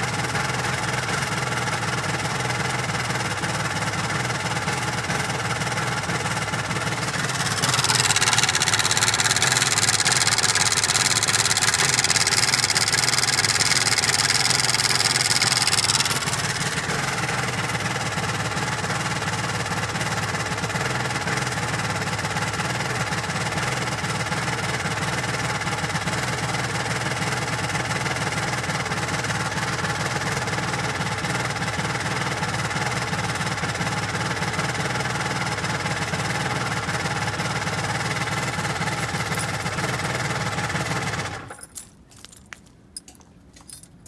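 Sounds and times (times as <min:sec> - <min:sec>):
two-stroke engine idling: 0:00.0 - 0:41.6.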